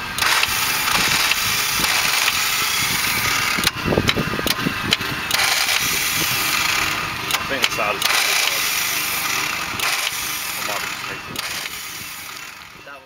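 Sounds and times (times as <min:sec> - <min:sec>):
diesel engine cranking on starter: 0:00.0 - 0:13.0.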